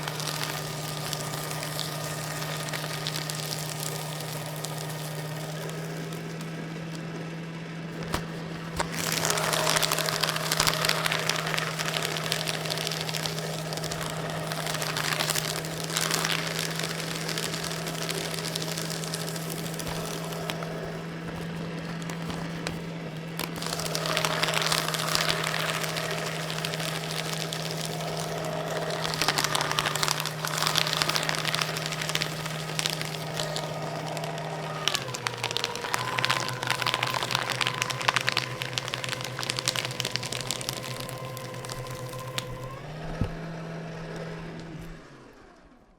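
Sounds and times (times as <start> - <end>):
paper crackling and tearing: 0.0 - 43.4
paper shredder motor hum: 0.0 - 45.9.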